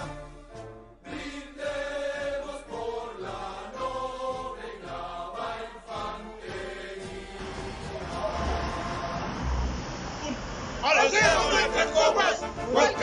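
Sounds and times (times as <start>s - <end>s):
choir singing: 1.0s - 9.9s, 10.8s - 13.0s.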